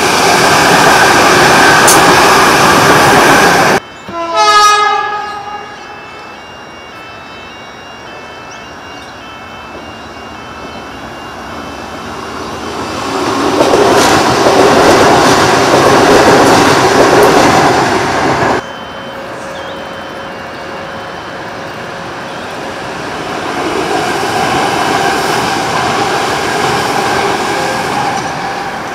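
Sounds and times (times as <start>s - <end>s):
electric train approaching: 0.0s - 28.9s
electric train passing: 0.0s - 28.9s.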